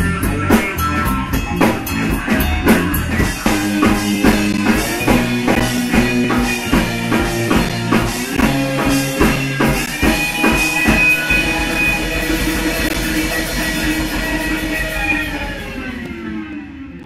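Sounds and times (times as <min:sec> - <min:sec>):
live rock band playing: 0:00.0 - 0:16.8.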